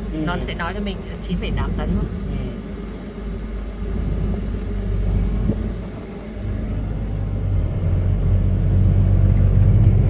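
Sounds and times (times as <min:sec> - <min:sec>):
combine harvester engine rumble: 0:00.0 - 0:10.0.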